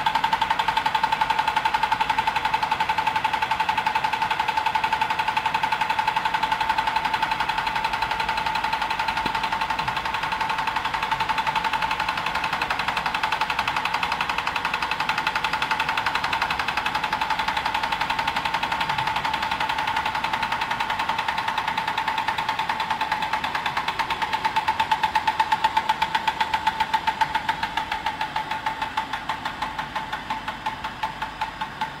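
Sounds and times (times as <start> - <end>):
machine mechanical clatter: 0.0 - 32.0
steady machine whine: 0.0 - 32.0.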